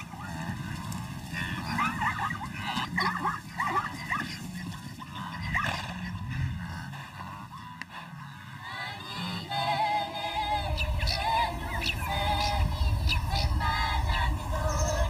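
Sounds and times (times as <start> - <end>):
steady low hum: 0.0 - 15.0
yelping animal calls: 0.0 - 15.0.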